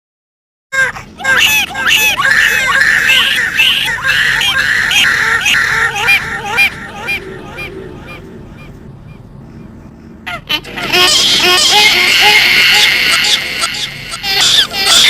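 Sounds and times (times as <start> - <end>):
wailing cries: 0.7 - 9.3, 10.2 - 15.0.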